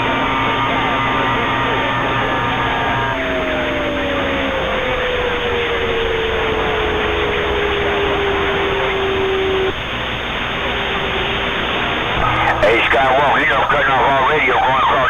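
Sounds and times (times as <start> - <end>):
radio receiver hiss: 0.0 - 15.0.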